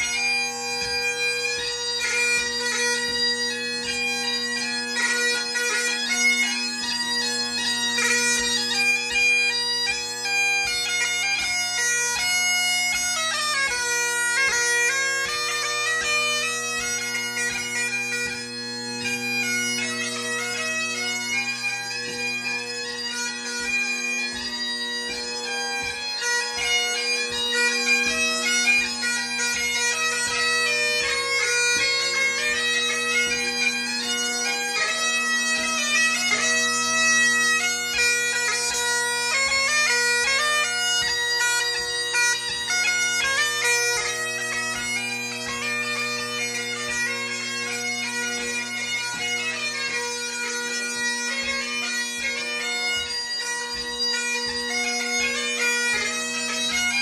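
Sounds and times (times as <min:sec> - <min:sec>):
bagpipe chanter melody: 0:00.0 - 0:57.0
bagpipe drones: 0:00.0 - 0:57.0.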